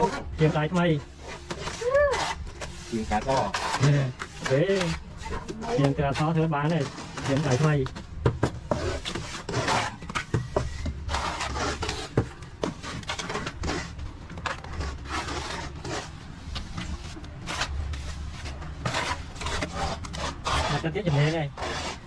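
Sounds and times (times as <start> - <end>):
trowel scraping wet plaster: 0.0 - 7.9, 8.7 - 22.0.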